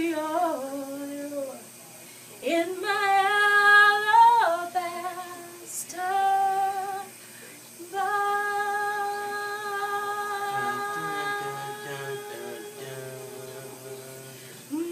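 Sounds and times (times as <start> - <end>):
woman singing unaccompanied: 0.0 - 1.6, 2.4 - 7.2, 7.8 - 14.9
soft low hum: 0.0 - 14.9.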